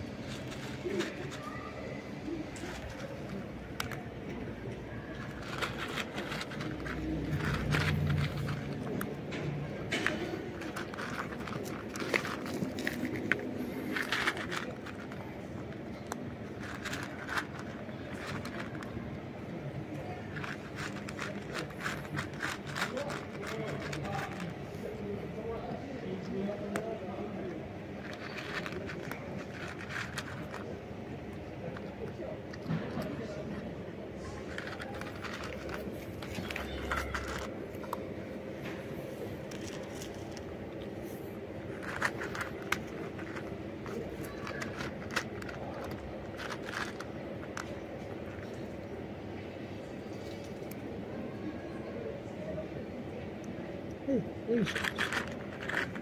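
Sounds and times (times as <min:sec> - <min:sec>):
cat crunching dry kibble: 0:00.0 - 0:51.1, 0:53.4 - 0:56.0
low background hum: 0:00.0 - 0:56.0.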